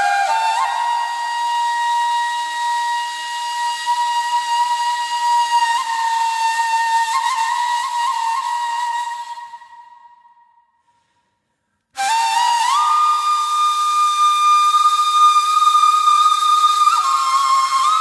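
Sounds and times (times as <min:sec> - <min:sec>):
reed flute long breathy note: 0:00.0 - 0:18.0.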